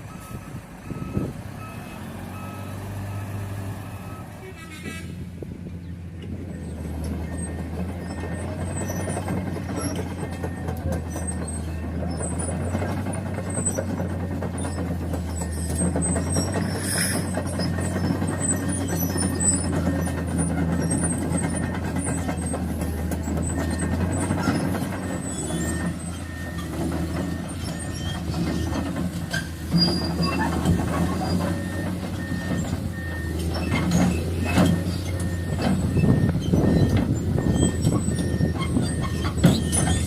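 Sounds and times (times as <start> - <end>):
diesel engine rumbling: 0.0 - 40.0.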